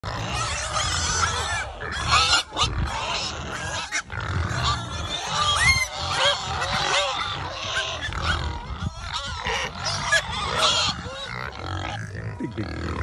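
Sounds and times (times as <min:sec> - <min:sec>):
pigs grunting and oinking: 0:00.0 - 0:13.0
high squeaky pig calls: 0:00.1 - 0:13.0.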